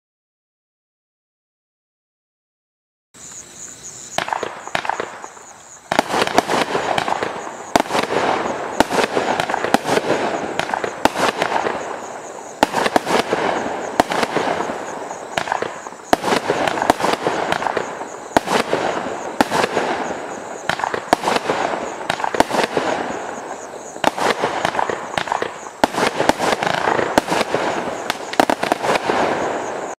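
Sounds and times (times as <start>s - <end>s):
firework bursting reports: 4.1s - 30.0s
firework launches: 4.2s - 30.0s.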